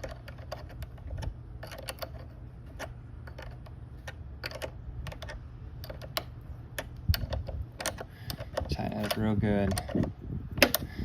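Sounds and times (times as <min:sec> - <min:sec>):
wrench metallic clicks: 0:00.0 - 0:10.9.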